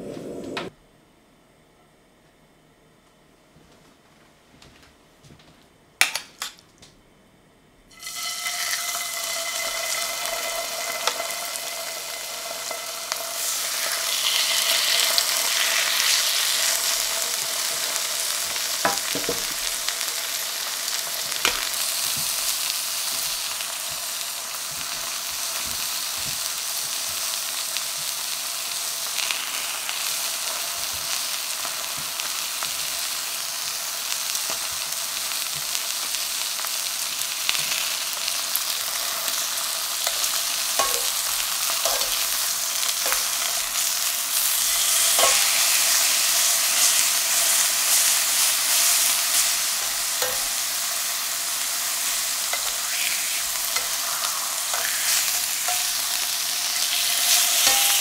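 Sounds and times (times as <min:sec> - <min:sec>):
pork chops sizzling in a skillet: 0:07.9 - 0:58.0.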